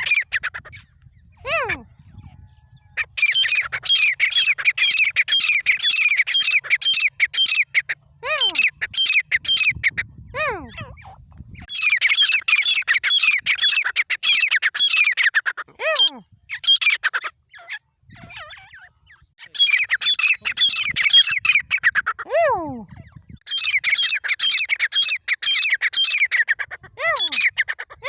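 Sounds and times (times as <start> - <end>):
bird squawking: 0.0 - 28.0.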